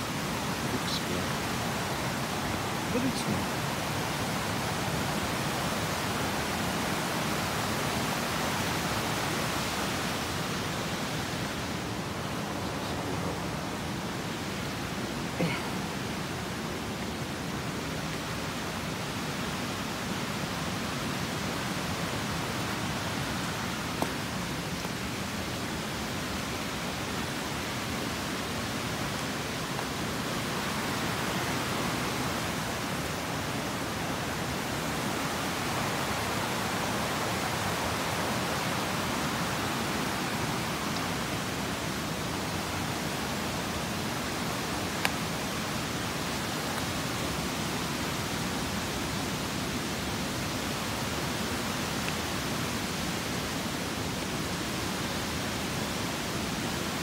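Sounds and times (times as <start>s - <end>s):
water rushing: 0.0s - 57.0s.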